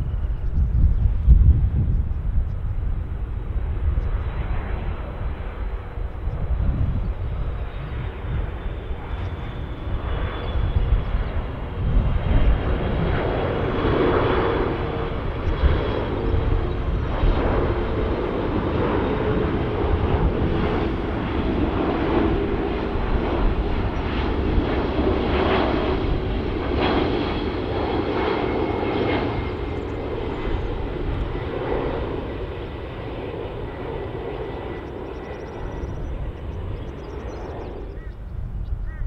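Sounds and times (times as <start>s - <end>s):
jet engine rumble: 0.0s - 39.0s.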